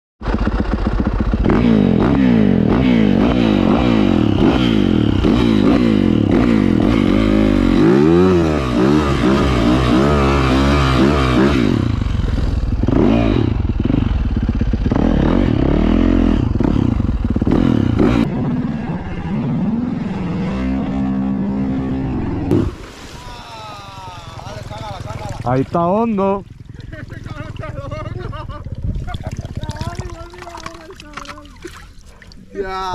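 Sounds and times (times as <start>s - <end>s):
motorcycle engine revving: 0.2s - 31.8s.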